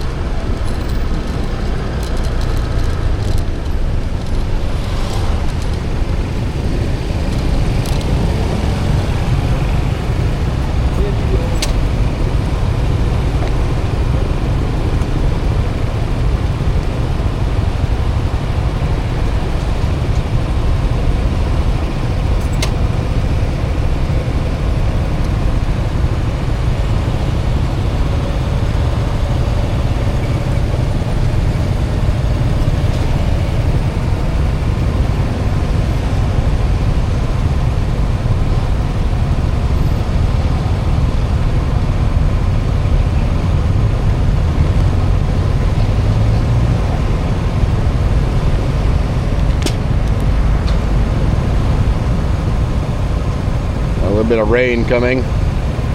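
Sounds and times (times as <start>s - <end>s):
motorbike engine running: 0.0s - 54.0s
wind and road noise: 0.0s - 55.9s.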